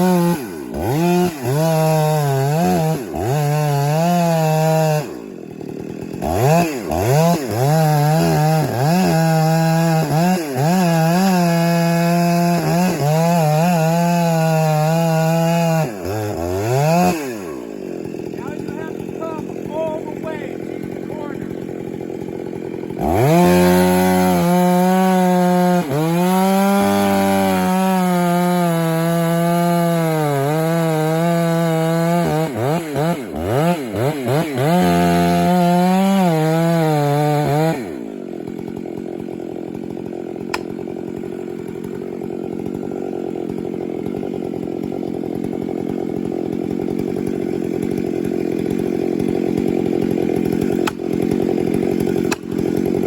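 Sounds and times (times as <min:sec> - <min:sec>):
chainsaw cutting tree: 0:00.0 - 0:53.0.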